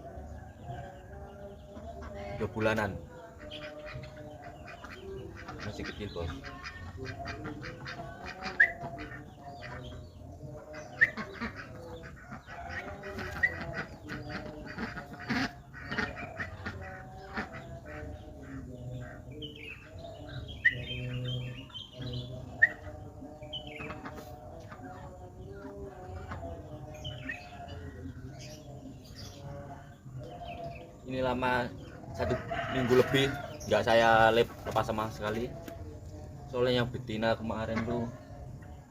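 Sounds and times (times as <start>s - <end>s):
other bird calls: 0.0s - 38.9s.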